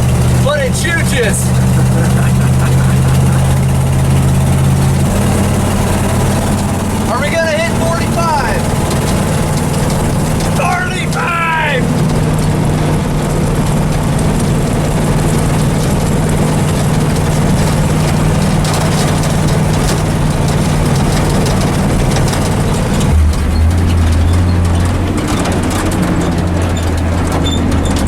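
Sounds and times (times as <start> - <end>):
road and wind noise: 0.0 - 28.0
truck engine drone: 0.0 - 28.0.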